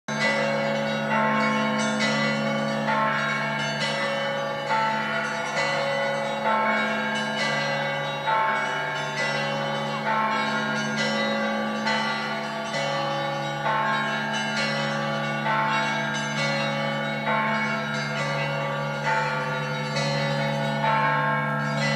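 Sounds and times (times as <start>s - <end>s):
higher church bells struck: 0.1s - 21.9s
low hum of large bells: 0.1s - 21.9s.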